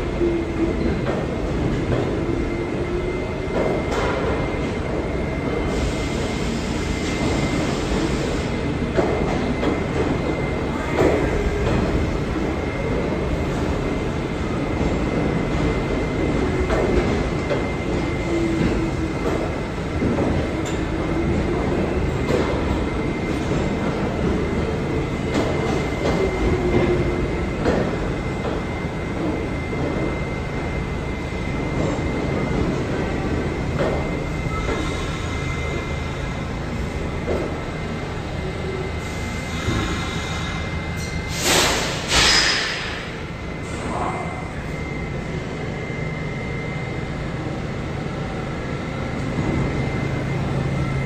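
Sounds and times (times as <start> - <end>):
subway train rumbling: 0.0 - 51.0.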